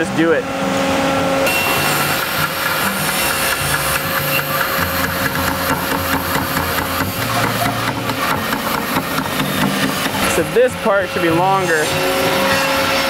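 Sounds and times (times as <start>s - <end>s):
bandsaw cutting wood: 1.5s - 13.0s.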